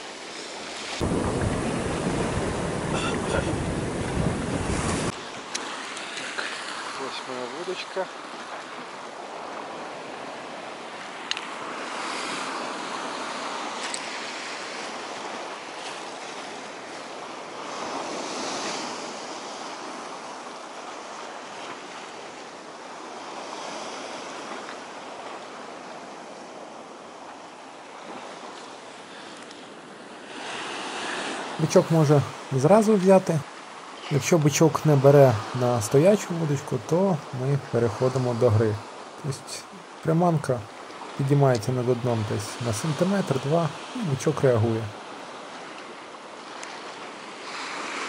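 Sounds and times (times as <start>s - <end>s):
sea surf against rocks: 0.0s - 48.0s
wind: 0.0s - 48.0s.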